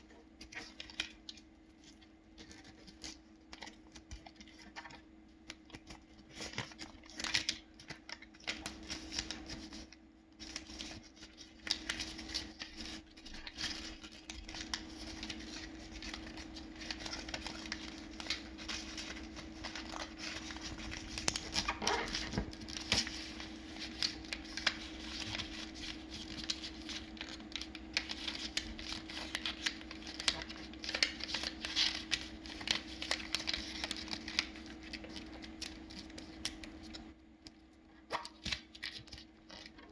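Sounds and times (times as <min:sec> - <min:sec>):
paper rustling and crinkling: 0:00.4 - 0:37.1.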